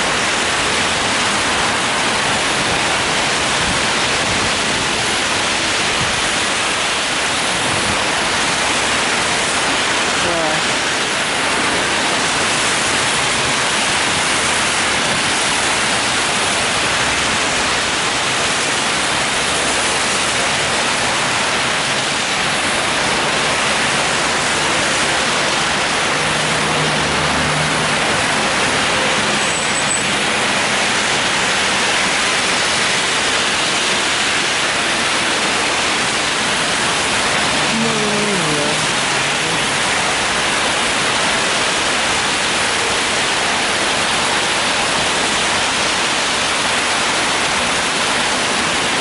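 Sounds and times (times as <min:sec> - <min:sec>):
heavy rain hissing: 0:00.0 - 0:49.0
tyres swishing on wet road: 0:00.0 - 0:49.0.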